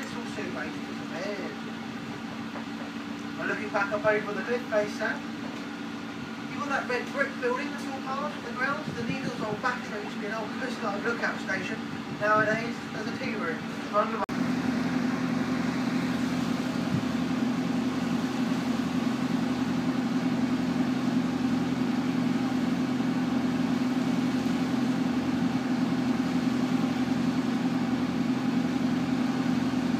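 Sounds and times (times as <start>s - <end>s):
boat engine humming: 0.0s - 29.9s.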